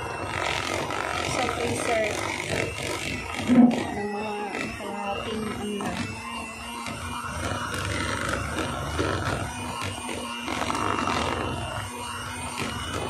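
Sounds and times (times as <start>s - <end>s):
electric hand mixer humming: 0.0s - 13.0s.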